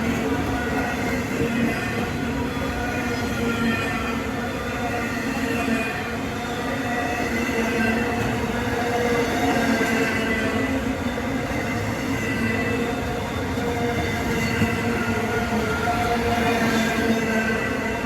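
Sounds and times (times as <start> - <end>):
train wheels rumbling on rails: 0.0 - 18.0
train wheels squealing: 0.0 - 18.0.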